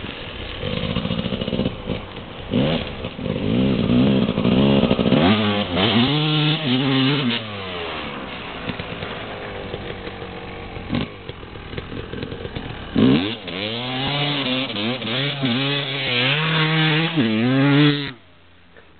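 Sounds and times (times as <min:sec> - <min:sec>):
dirt bike engine revving: 0:00.2 - 0:18.2.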